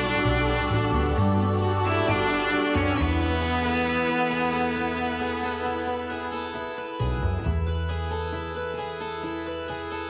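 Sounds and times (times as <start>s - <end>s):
bowed strings holding a chord: 0.0s - 10.0s.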